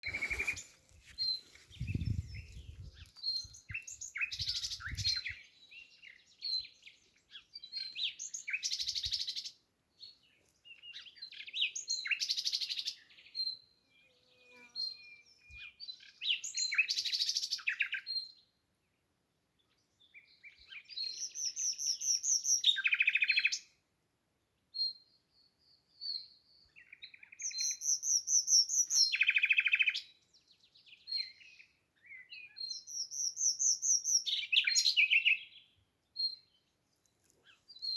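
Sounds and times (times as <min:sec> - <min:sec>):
songbirds singing: 0:00.0 - 0:37.9.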